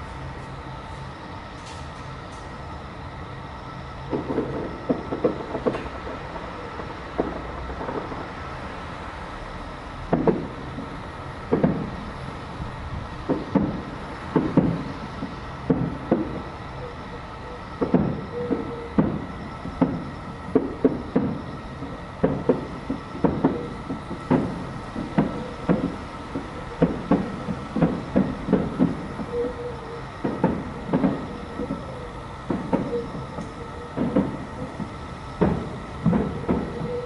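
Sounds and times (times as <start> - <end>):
steady background hum: 0.0 - 37.0
distant fireworks booming: 4.0 - 37.0.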